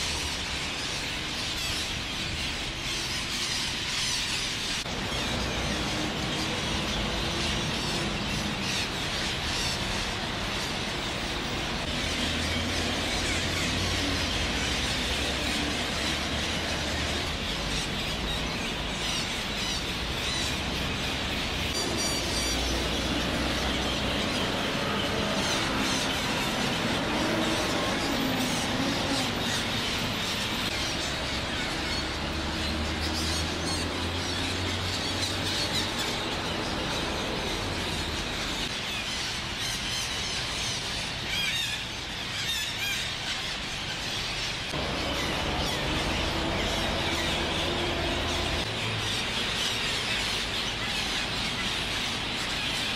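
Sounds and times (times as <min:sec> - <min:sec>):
parakeets squawking: 0:00.0 - 0:52.9.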